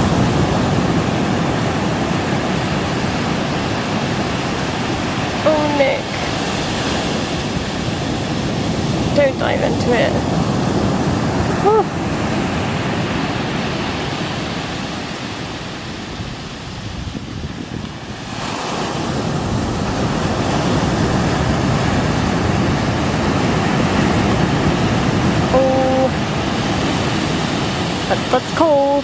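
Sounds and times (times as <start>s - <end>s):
wind buffeting the microphone: 0.0s - 28.9s
surf breaking on a beach: 0.0s - 29.0s.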